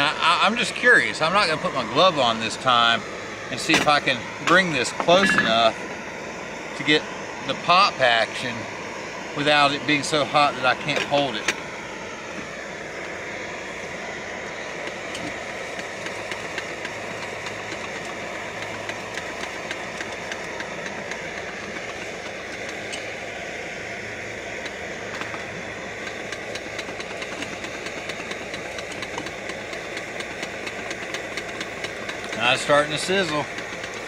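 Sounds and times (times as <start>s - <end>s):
gas stove burner hissing: 0.0s - 34.0s
oil and kernels sizzling: 0.0s - 34.0s.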